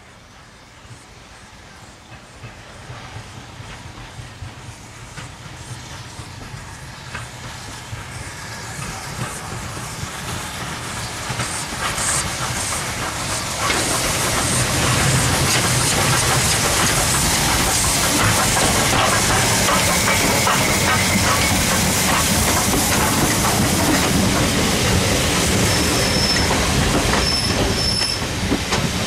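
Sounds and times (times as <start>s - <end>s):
steam locomotive hissing: 0.0s - 29.0s
train low rumble: 0.0s - 29.0s.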